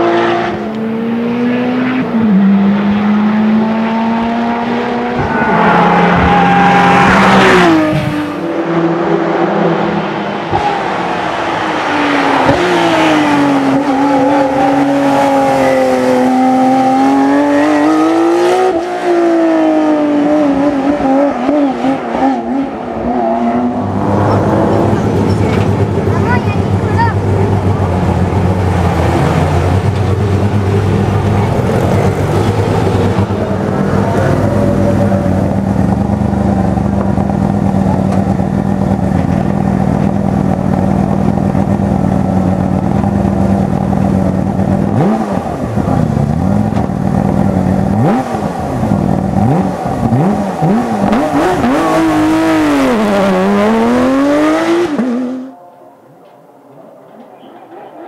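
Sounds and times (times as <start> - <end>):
race car engine revving: 0.0 - 55.5.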